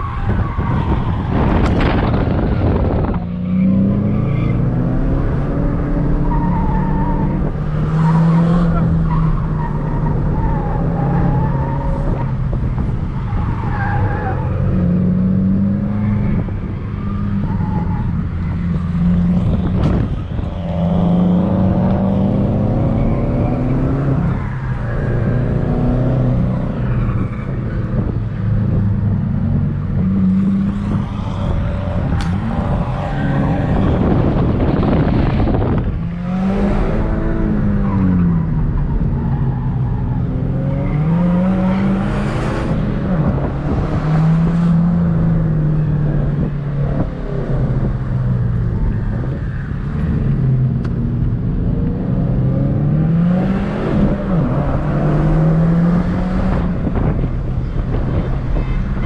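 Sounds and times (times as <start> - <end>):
car engine revving: 0.0 - 59.0
tyre and road noise: 0.0 - 59.0.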